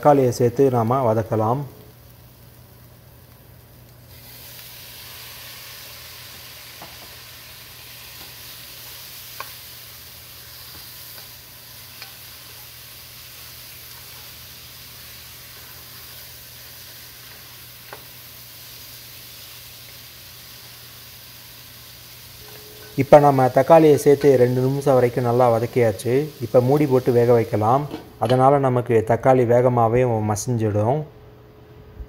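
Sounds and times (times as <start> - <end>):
tomatoes sizzling in oil: 0.9 - 28.2.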